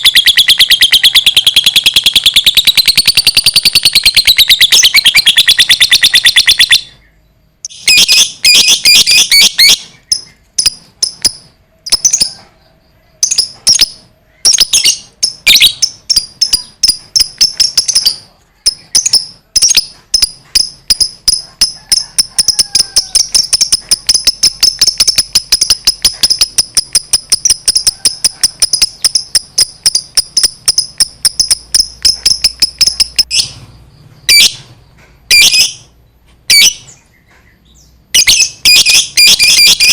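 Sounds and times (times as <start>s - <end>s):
lovebird chattering trill: 0.0s - 34.7s, 35.3s - 35.9s, 36.5s - 39.9s.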